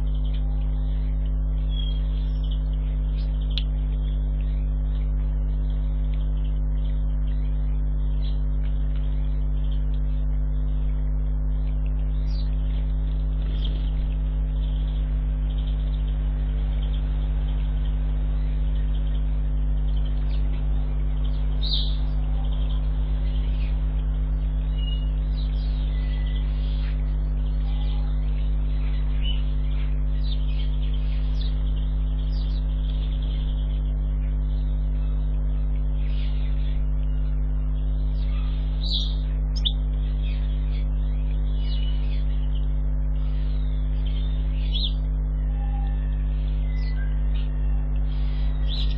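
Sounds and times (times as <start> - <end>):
low electrical hum: 0.0 - 48.9
small birds chirping: 0.0 - 48.9.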